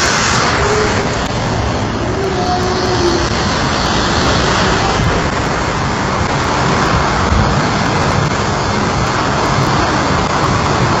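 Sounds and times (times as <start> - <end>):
train passing at speed: 0.0 - 11.0
water spraying: 0.0 - 11.0.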